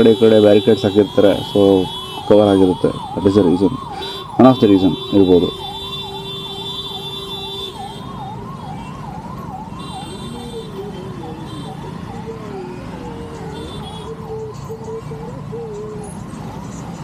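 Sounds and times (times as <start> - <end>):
emergency siren wailing: 0.0 - 17.0
traffic rumble: 0.0 - 17.0.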